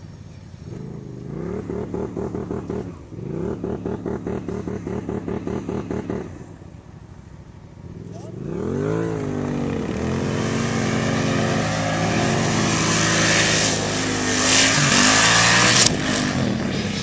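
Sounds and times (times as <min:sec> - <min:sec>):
hiss of wind and sand: 0:00.0 - 0:17.0
off-road vehicle engine revving: 0:00.0 - 0:17.0.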